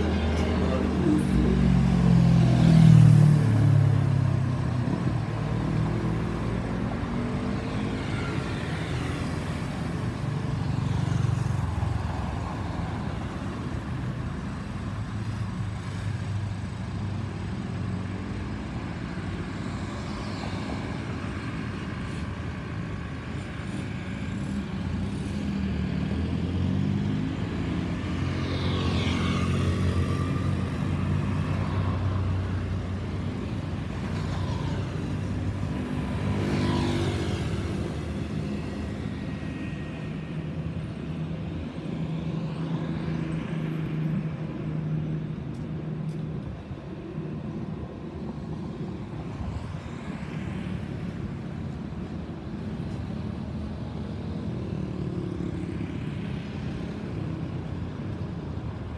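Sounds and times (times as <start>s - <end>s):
road traffic rumble: 0.0s - 58.9s
vehicles passing close by: 0.0s - 58.9s.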